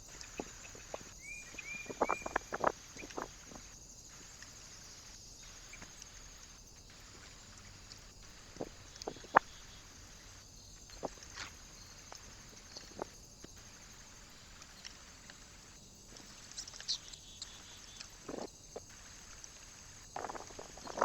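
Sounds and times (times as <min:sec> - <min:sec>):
faint high chirp-like clicks: 0:00.0 - 0:21.0
faint steady hiss: 0:00.0 - 0:21.0.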